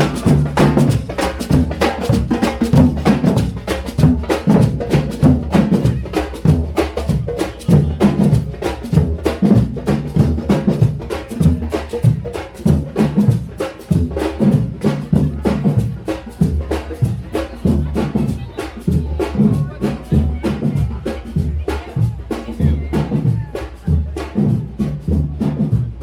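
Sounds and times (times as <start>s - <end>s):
drums and percussion: 0.0s - 26.0s.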